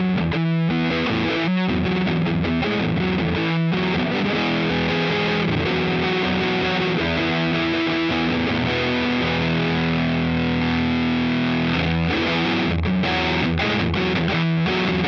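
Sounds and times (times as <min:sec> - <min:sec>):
fuzz electric guitar chords: 0:00.0 - 0:15.0.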